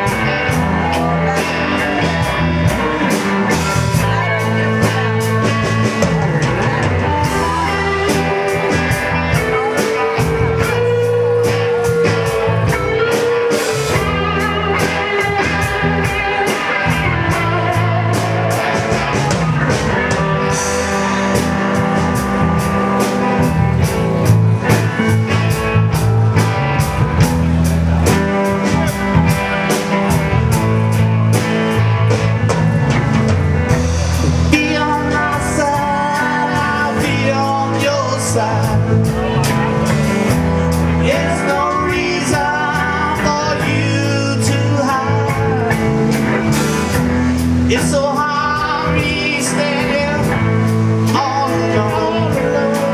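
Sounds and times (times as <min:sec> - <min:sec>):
bass guitar: 0:00.0 - 0:52.9
drum kit beat: 0:00.0 - 0:52.9
electric guitar: 0:00.0 - 0:52.9
wavering melodic lead voice: 0:00.0 - 0:52.9.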